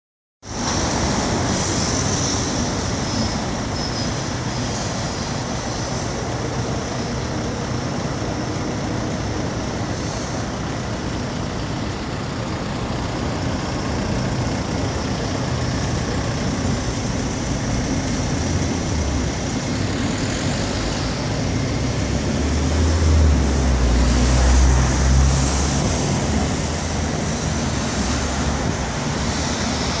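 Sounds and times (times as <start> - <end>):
heavy vehicle low rumble: 0.4 - 30.0
passing road traffic: 0.4 - 30.0.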